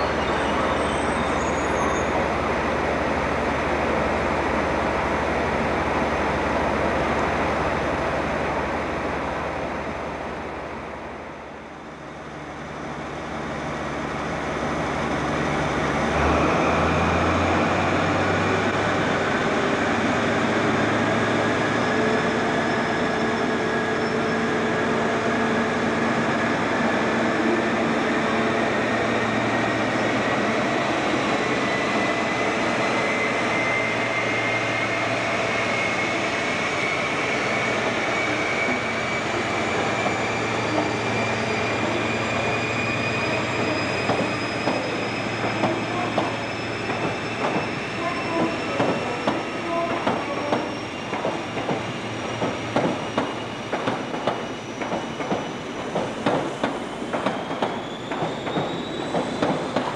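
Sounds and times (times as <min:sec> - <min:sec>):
locomotive diesel engine: 0:00.0 - 0:59.9
train diesel engines running: 0:00.0 - 0:59.9.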